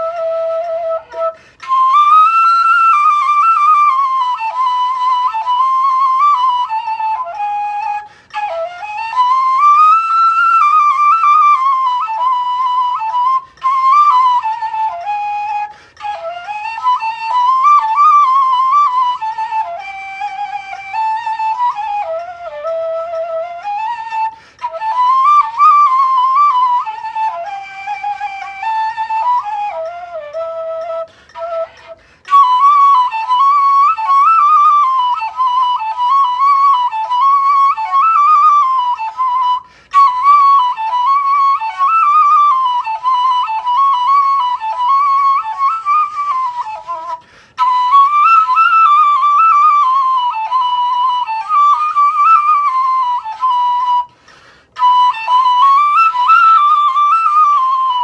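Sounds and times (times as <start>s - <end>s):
wooden flute solo melody: 0.0s - 58.0s.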